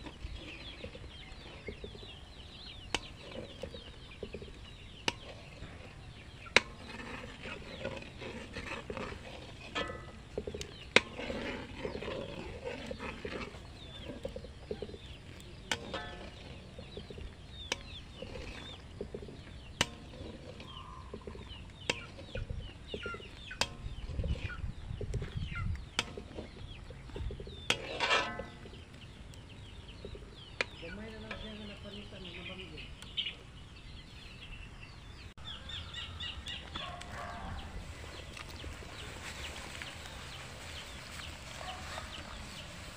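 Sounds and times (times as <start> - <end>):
chickens clucking: 0.0 - 34.0, 34.9 - 42.9.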